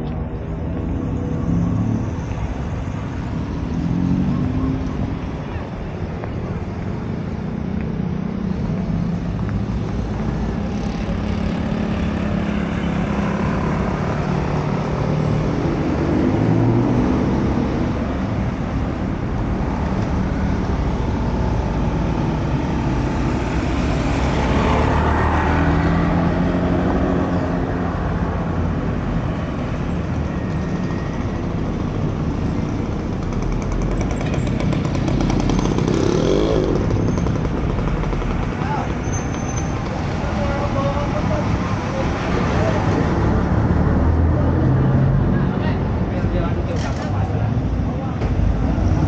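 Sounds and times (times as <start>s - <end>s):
cars and motorbikes passing: 0.0s - 49.0s
loud vehicle passing: 0.5s - 5.8s, 6.5s - 49.0s.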